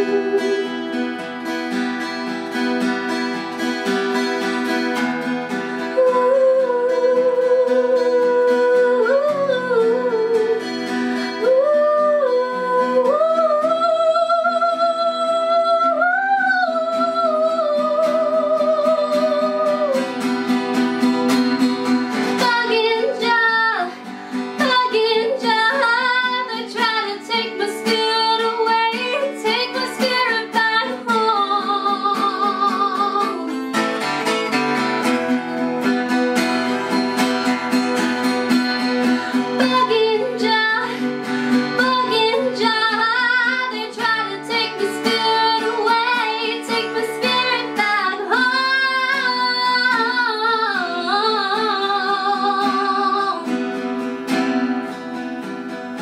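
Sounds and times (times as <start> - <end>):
woman singing with vibrato: 0.0 - 1.2, 5.8 - 34.2, 37.9 - 54.0
acoustic guitar: 0.0 - 56.0.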